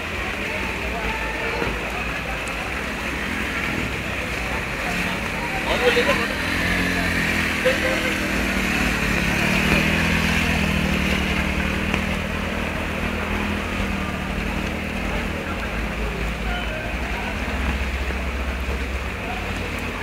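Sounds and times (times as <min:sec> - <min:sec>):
even wash of noise: 0:00.0 - 0:20.0
vehicle engine running: 0:01.8 - 0:20.0.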